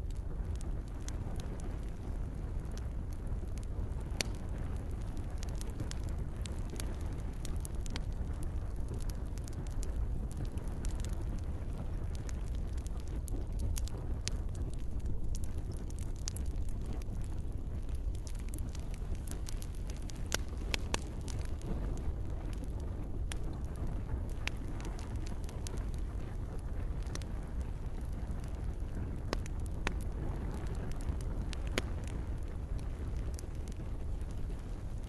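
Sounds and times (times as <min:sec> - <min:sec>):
campfire low rumble: 0:00.0 - 0:35.0
wood crackling and popping: 0:00.0 - 0:35.0.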